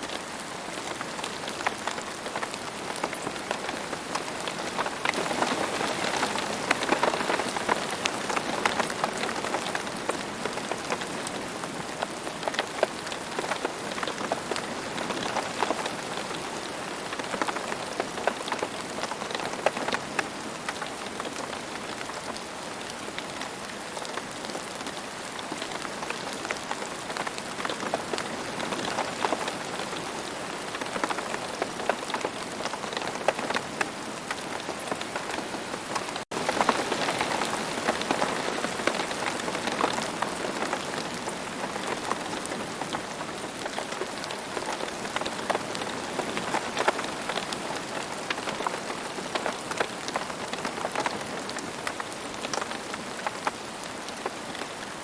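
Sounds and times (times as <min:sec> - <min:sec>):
rain falling on ground: 0:00.0 - 0:55.0.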